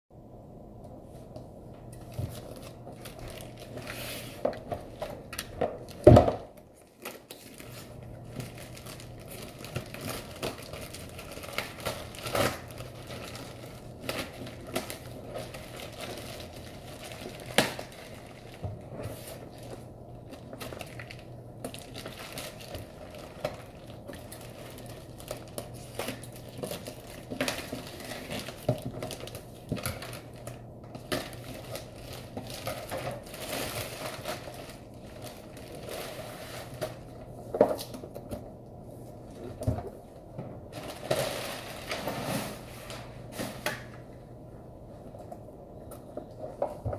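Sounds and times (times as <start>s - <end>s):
plastic bag tearing and crinkling: 2.1s - 38.1s, 40.7s - 43.9s.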